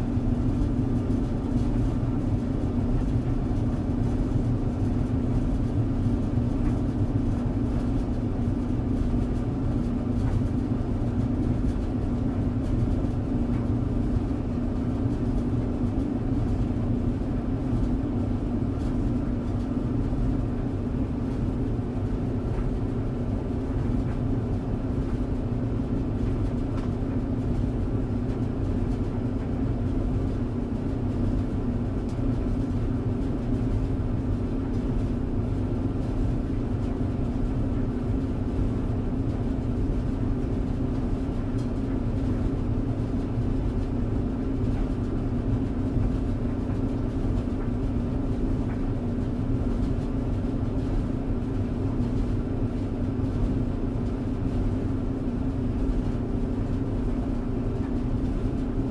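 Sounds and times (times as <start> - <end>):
clothes dryer humming: 0.0 - 58.9.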